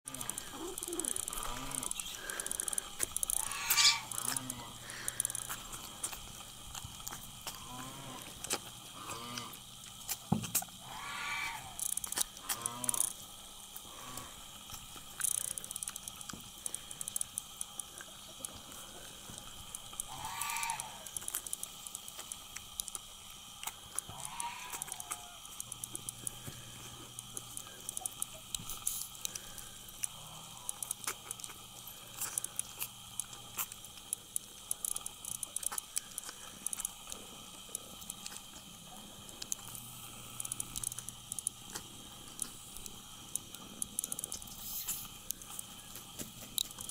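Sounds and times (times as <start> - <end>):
kittens chewing and licking: 0.0 - 46.9.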